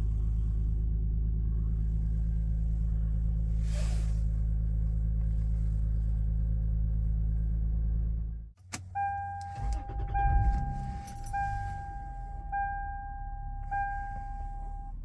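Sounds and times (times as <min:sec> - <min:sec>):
car engine idling: 0:00.0 - 0:07.9, 0:08.6 - 0:15.0.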